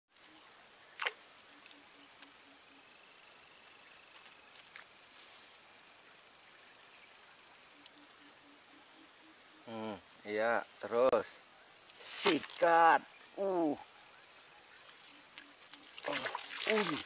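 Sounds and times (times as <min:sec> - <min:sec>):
insects droning: 0:00.1 - 0:17.0
pulsing insect trill: 0:00.1 - 0:17.0.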